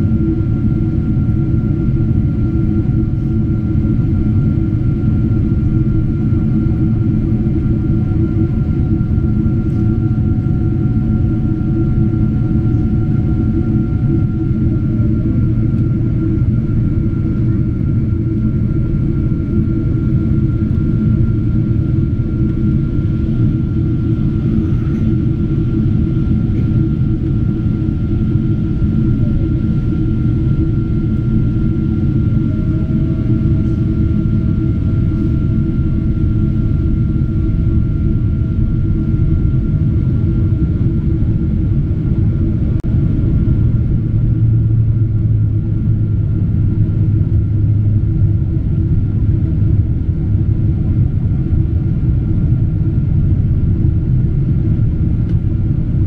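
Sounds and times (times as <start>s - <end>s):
airliner engines rumbling: 0.0s - 56.0s
faint steady whine: 0.0s - 56.0s
deep hum: 4.7s - 56.0s.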